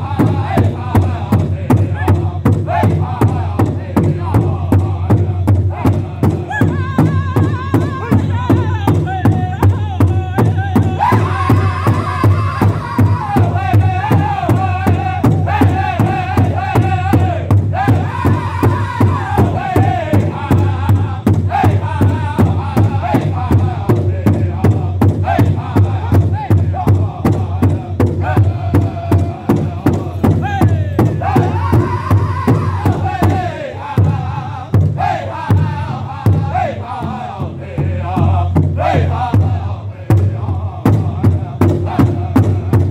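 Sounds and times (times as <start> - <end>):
group singing in unison: 0.0 - 42.9
large drum beat: 0.0 - 42.9.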